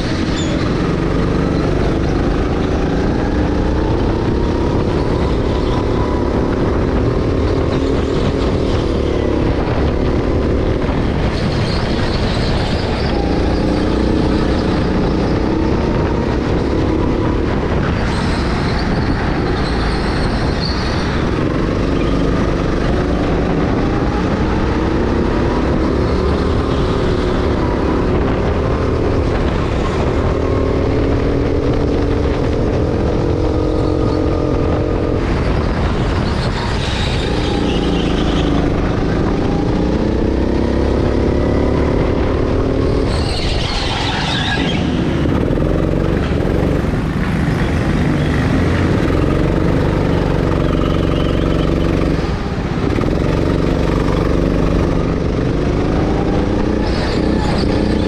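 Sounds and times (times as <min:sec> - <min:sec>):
go-kart motor revving: 0:00.0 - 0:58.0.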